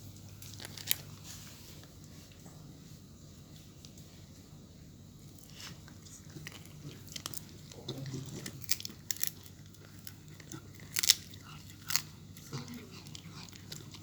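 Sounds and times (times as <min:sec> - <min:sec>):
dog chewing and crunching food: 0:00.0 - 0:02.5, 0:05.2 - 0:14.0.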